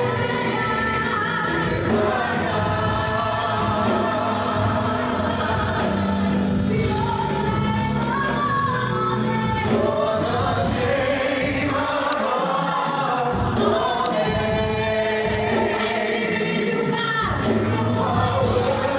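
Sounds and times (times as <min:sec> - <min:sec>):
gospel choir singing: 0:00.0 - 0:18.9
instrumental accompaniment: 0:00.0 - 0:18.9.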